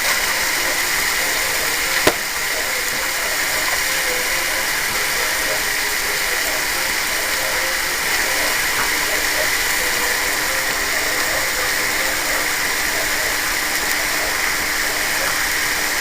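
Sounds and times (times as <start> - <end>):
sausage and onion sizzling: 0.0 - 16.0.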